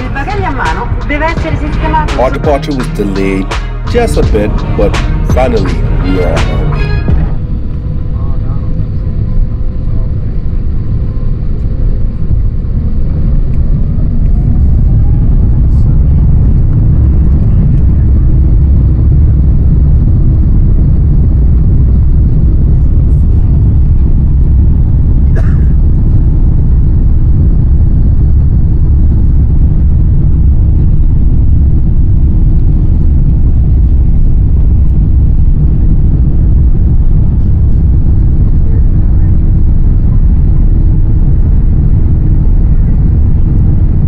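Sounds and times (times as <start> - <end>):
jet engine cabin rumble: 0.0 - 44.0.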